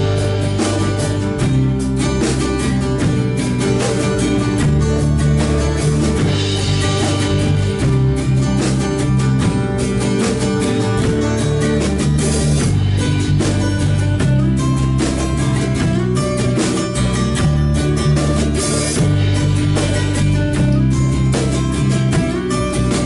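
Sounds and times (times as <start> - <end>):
drum kit beat: 0.0 - 23.0
guitar: 0.0 - 23.0.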